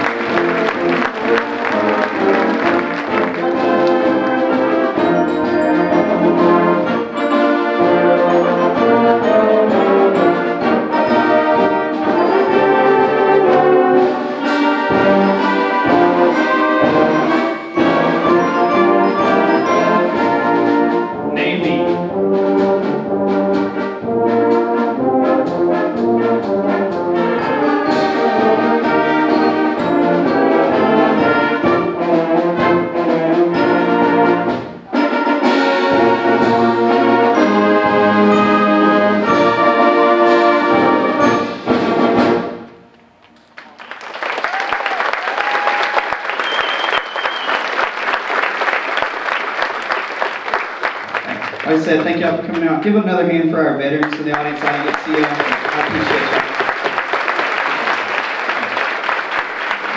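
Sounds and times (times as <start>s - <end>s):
symphonic band playing: 0.0s - 42.9s, 47.6s - 59.9s.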